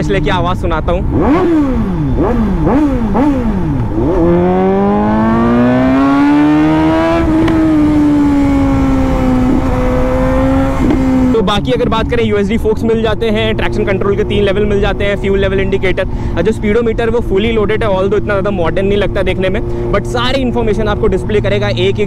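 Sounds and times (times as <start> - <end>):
motorcycle accelerating: 0.0 - 22.0
motorcycle engine revving: 0.0 - 22.0.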